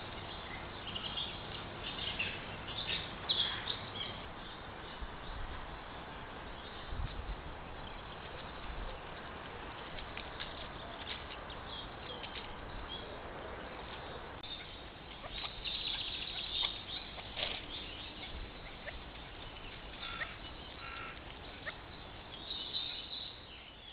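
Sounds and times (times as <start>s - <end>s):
microphone hiss: 0.0s - 23.9s
woodland birds calling: 0.0s - 23.9s.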